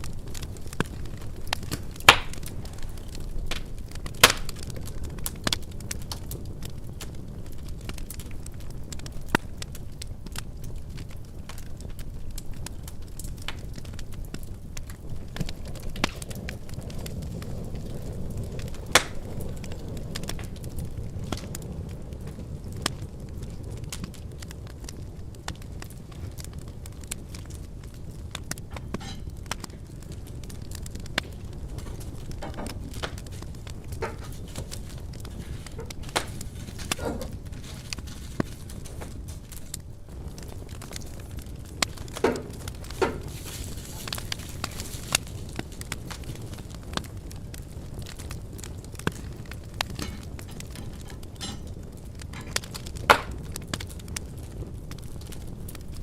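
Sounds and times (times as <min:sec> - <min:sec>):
fire popping and snapping: 0:00.0 - 0:56.0
low rumble of burning: 0:00.0 - 0:56.0
wood fire crackling: 0:00.0 - 0:56.0.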